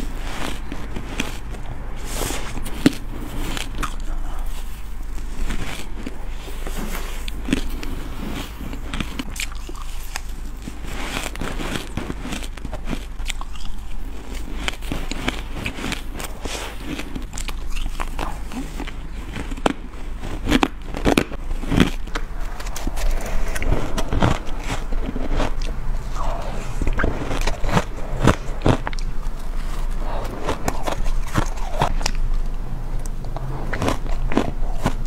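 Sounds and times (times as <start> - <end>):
crunching shaved ice: 0.0 - 35.0
low steady hum: 0.0 - 35.0.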